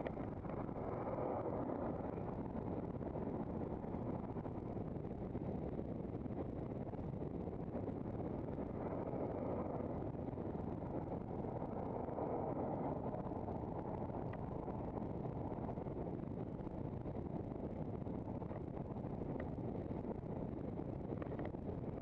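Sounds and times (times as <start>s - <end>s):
tyre road noise: 0.0s - 22.0s
wind rumble on microphone: 0.0s - 22.0s.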